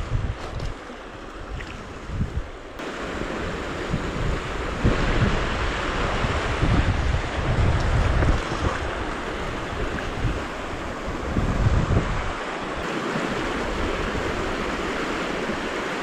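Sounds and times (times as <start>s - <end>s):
rushing water: 0.0s - 16.0s
wind: 0.0s - 16.0s
wind buffeting microphone: 0.0s - 16.0s.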